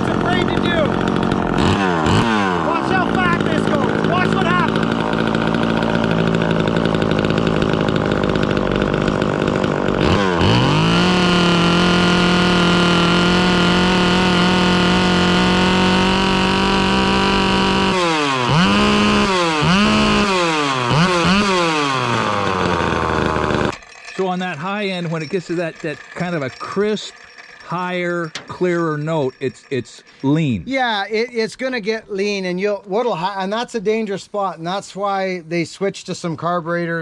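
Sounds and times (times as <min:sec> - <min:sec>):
chainsaw revving: 0:00.0 - 0:35.4.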